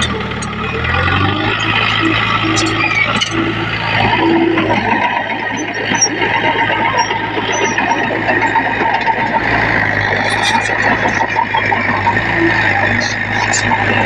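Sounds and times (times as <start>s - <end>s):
heavy machinery diesel engines: 0.0s - 14.0s.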